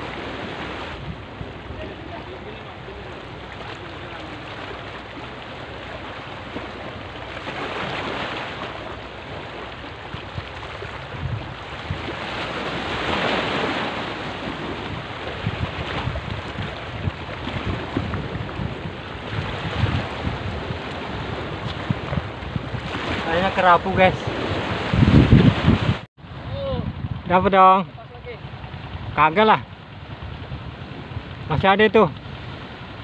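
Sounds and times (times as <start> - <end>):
waves washing against rocks: 0.0 - 26.5
wind buffeting microphone: 0.0 - 33.0.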